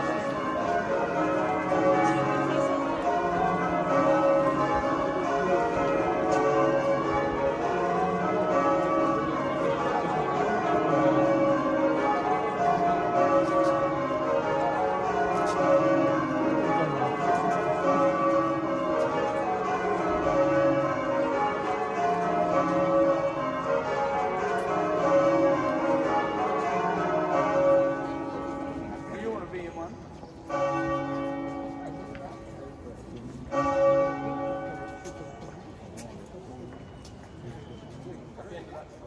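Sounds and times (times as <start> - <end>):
church bells change ringing: 0.0 - 38.0.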